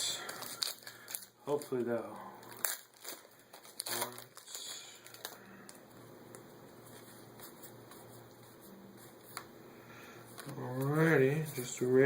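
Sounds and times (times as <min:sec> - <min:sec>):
trading cards rustling: 0:00.0 - 0:09.6, 0:10.2 - 0:12.0
soft card handling noise: 0:00.0 - 0:12.0.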